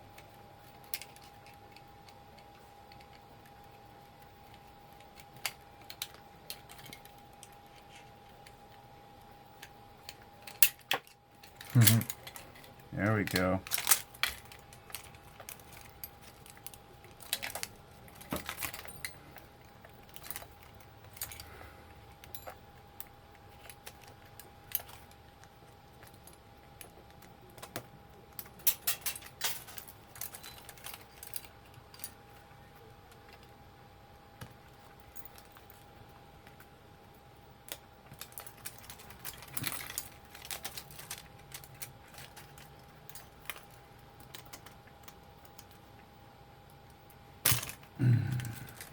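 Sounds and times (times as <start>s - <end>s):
faint high hum: 0.0s - 48.9s
plastic parts clicking and clattering: 0.2s - 8.8s, 9.6s - 21.5s, 22.2s - 32.5s, 37.6s - 45.8s, 47.4s - 48.9s.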